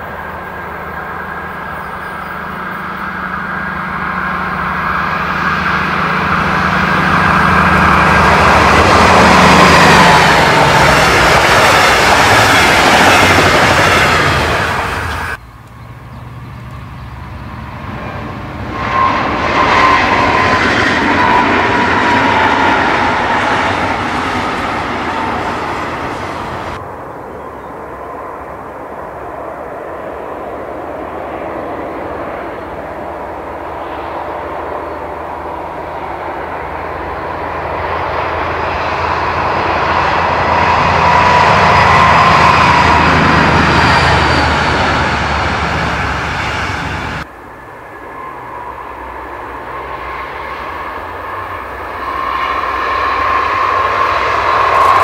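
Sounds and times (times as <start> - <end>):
diesel locomotive engine whining: 0.0 - 55.0
train approaching: 0.0 - 55.0.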